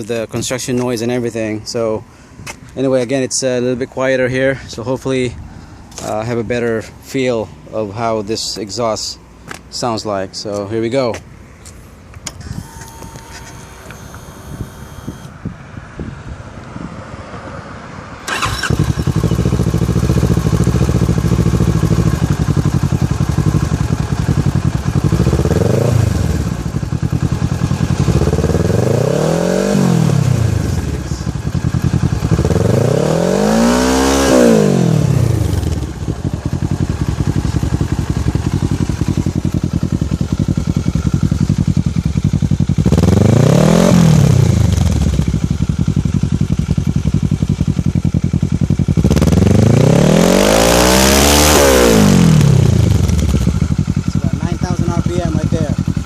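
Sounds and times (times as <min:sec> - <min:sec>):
motorcycle engine idling and revving: 0:11.1 - 0:56.0.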